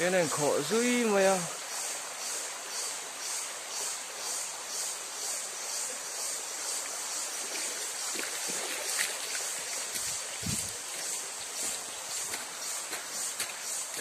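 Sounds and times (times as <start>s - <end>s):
stream water over rocks: 0.0s - 14.0s.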